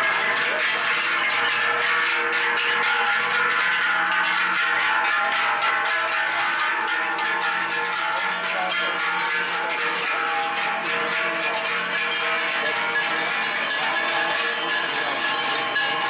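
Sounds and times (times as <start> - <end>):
cowbells clanging: 0.0 - 16.0.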